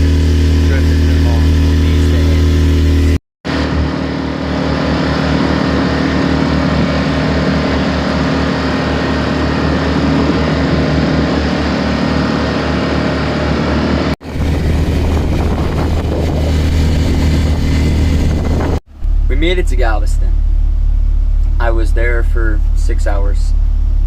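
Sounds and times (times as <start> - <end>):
boat engine throbbing: 0.0 - 24.0.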